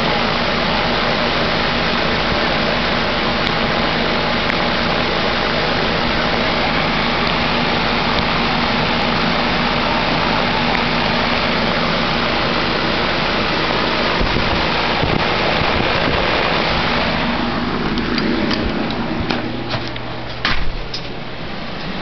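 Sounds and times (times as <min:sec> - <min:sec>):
compressor hum: 0:00.0 - 0:22.0
condenser fan air rush: 0:00.0 - 0:22.0.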